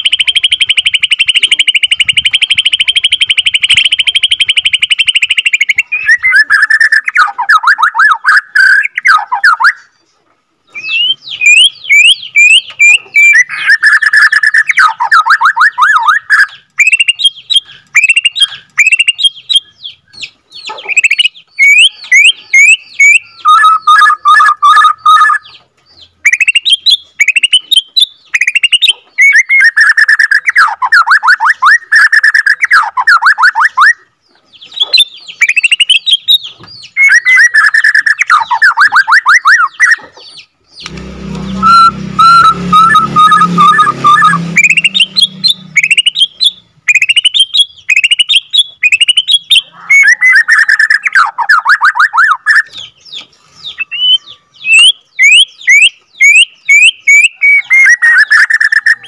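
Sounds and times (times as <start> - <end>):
songbird trills and whistles: 0.0 - 59.0.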